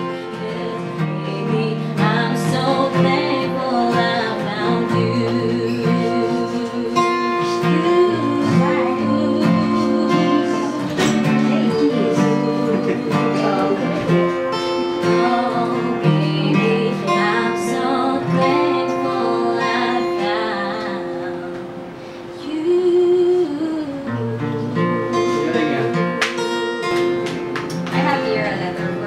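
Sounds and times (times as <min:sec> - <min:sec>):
person singing a serenade: 0:00.0 - 0:25.8
acoustic guitar: 0:00.0 - 0:29.0.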